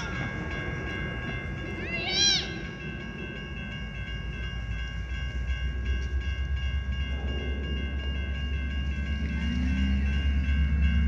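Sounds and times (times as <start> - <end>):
locomotive engine rumble: 0.0 - 11.0.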